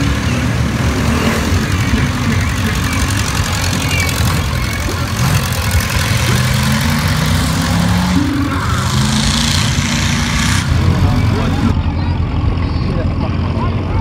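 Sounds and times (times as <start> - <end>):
pickup truck engine rumbling: 0.0 - 14.0
tractor engine running: 0.0 - 14.0.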